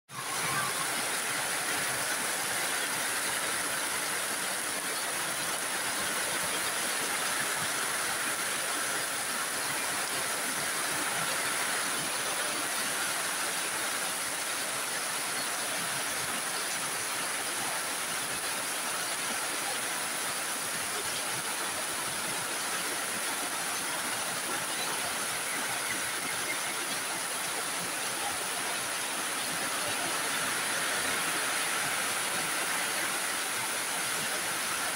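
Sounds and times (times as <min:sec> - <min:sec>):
heavy rain falling: 0:00.1 - 0:34.9
water streaming off roof: 0:00.1 - 0:34.9.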